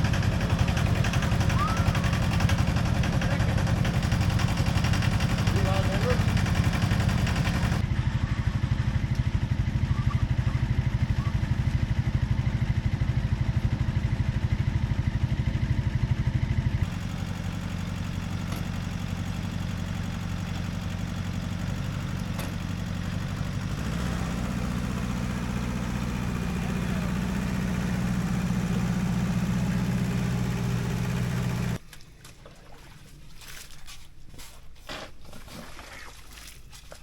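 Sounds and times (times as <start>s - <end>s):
small tractor engine chugging: 0.0s - 31.8s.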